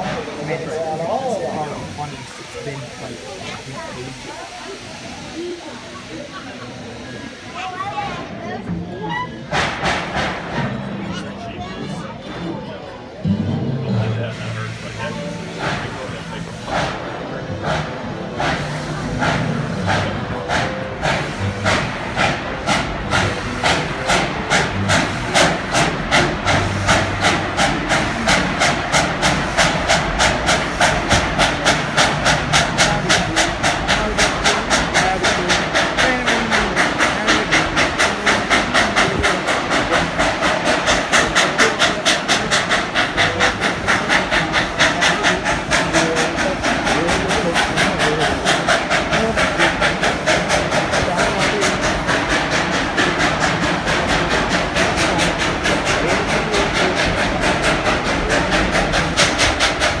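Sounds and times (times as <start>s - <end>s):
steam hissing: 0.0s - 11.2s, 13.0s - 60.0s
steam locomotive chuffing: 0.0s - 60.0s.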